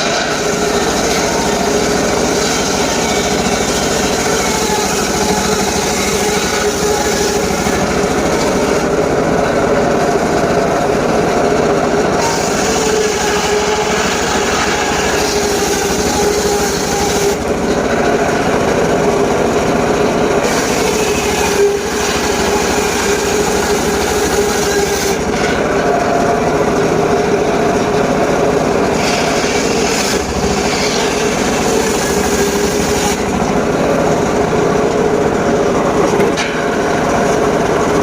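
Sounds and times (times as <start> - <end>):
engine-driven saw whining: 0.0 - 38.0.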